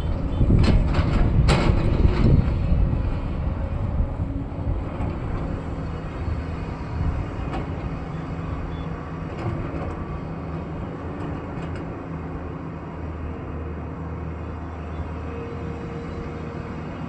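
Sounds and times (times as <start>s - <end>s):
earthmoving machinery diesel engine: 0.0s - 17.0s.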